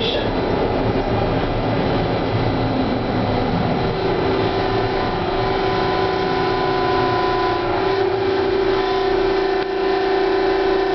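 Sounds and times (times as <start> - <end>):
electrical whine: 0.0 - 10.9
subway car running rumble: 0.0 - 10.9.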